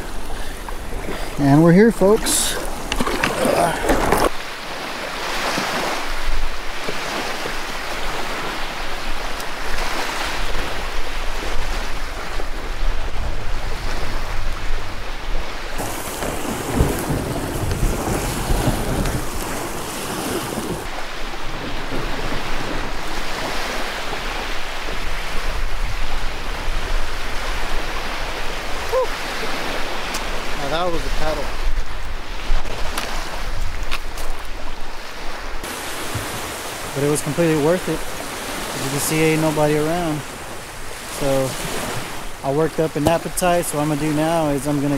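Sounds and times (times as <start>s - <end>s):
waves washing and splashing: 0.0s - 44.9s
wind buffeting microphone: 5.5s - 42.5s.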